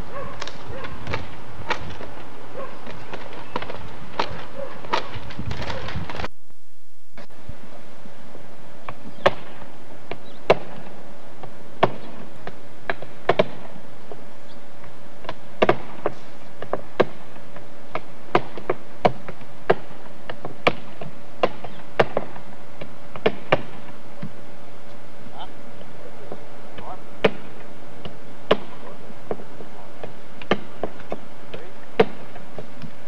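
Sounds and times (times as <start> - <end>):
faint steady hum: 0.0 - 33.0
hammers nailing roof shingles: 0.4 - 6.3, 8.9 - 14.2, 15.2 - 24.3, 26.3 - 33.0.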